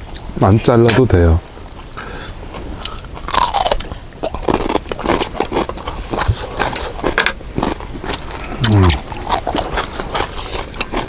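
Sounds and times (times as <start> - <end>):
wet chewing: 1.8 - 11.0.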